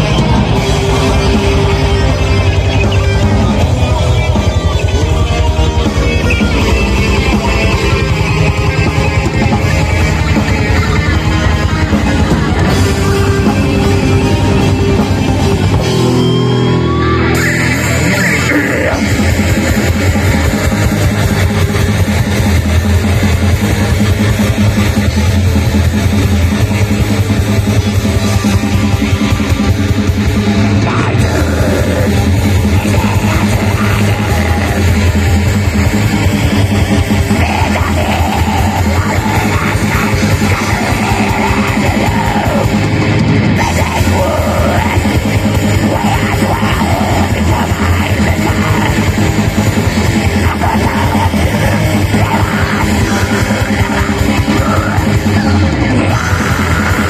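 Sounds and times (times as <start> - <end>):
distorted electric guitars: 0.0 - 57.0
rapid drumming: 0.0 - 57.0.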